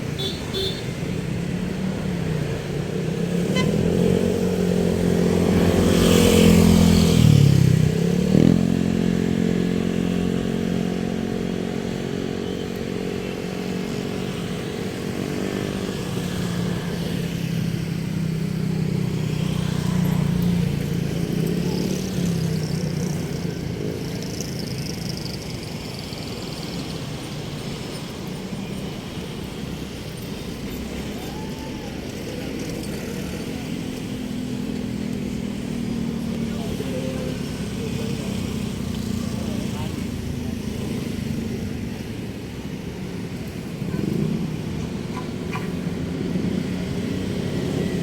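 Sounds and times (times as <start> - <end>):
traffic engines and road noise: 0.0 - 48.0.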